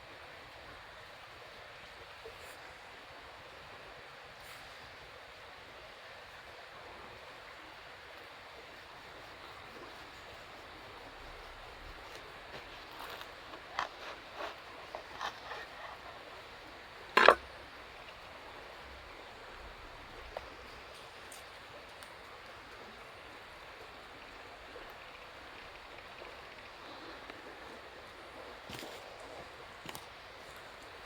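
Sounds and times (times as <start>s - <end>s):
campfire hissing: 0.0s - 31.0s.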